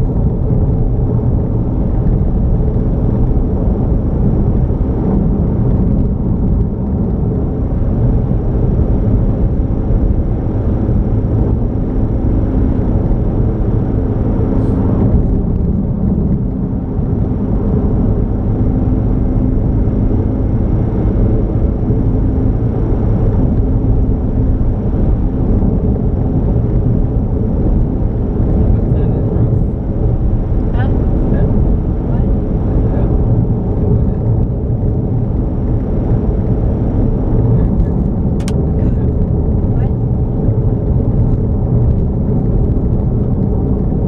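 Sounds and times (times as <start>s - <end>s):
vehicle engine and road rumble: 0.0s - 44.0s.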